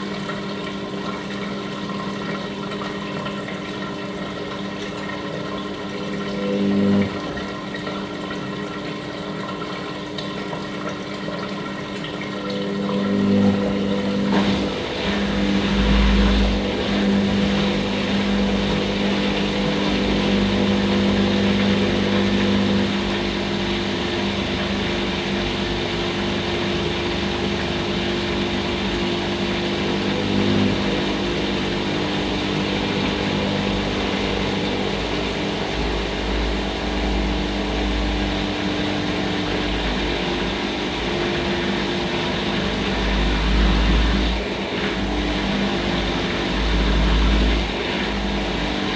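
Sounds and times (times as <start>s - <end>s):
washing machine motor running: 0.0s - 48.9s.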